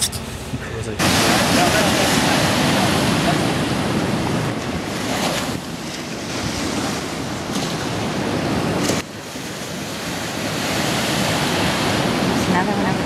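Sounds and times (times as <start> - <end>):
wind noise on microphone: 0.0 - 13.0
seawater washing against rocks: 1.0 - 13.0.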